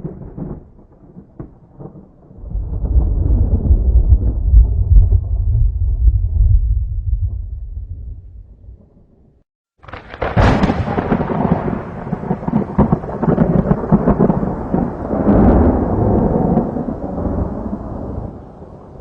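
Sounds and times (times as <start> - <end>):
thunder crack and rumble: 0.0 - 9.2, 9.8 - 19.0.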